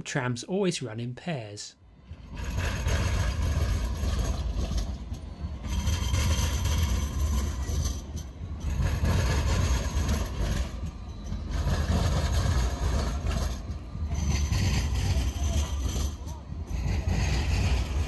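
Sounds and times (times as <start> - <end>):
tram rumbling: 0.0 - 18.0.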